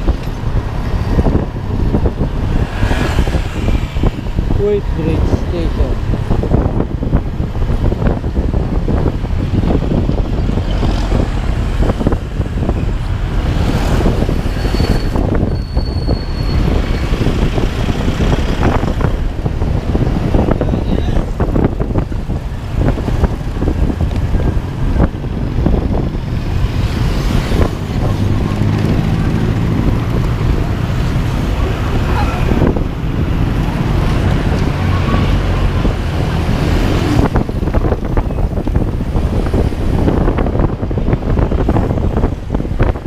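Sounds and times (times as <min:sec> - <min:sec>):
road vehicle rumble and wind: 0:00.0 - 0:43.0.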